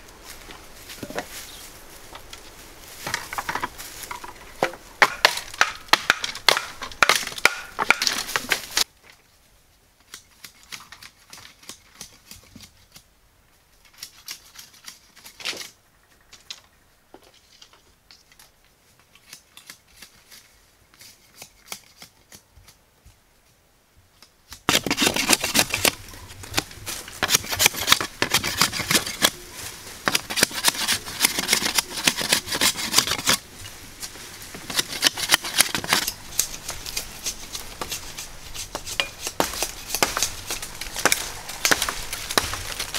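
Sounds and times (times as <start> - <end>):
bamboo poles clicking and knocking: 2.1 - 9.2, 10.0 - 13.1, 13.8 - 42.9.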